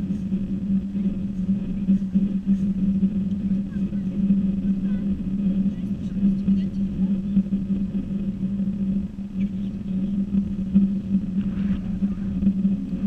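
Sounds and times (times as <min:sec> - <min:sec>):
drone propellers humming: 0:00.0 - 0:13.0.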